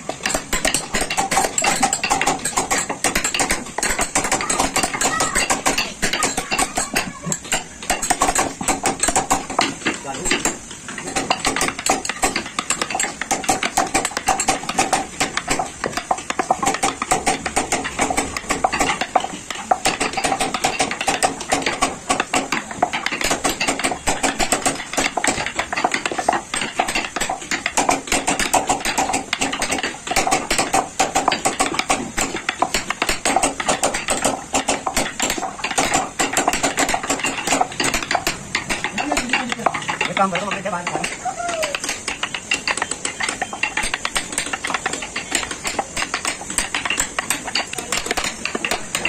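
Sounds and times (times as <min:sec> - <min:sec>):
mallet tapping a chisel: 0:00.1 - 0:49.0.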